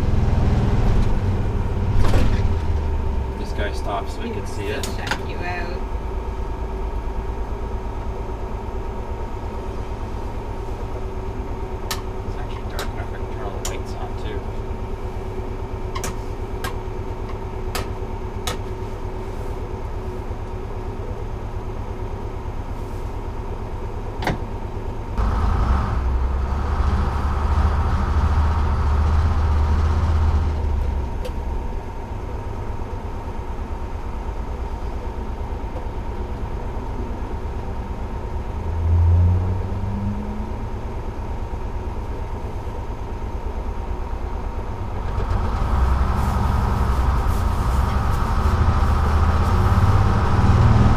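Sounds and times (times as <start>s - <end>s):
diesel bus engine rumbling: 0.0s - 50.9s.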